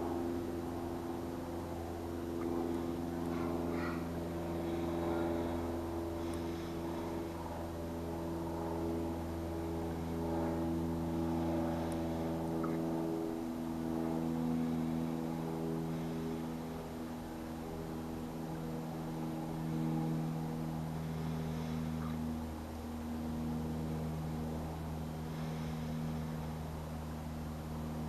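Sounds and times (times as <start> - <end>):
low mechanical hum with fixed tones: 0.0 - 28.0.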